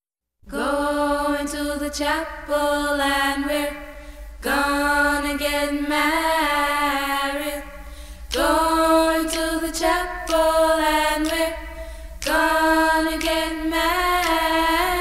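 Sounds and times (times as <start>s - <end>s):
unaccompanied voices singing: 0.5s - 15.0s.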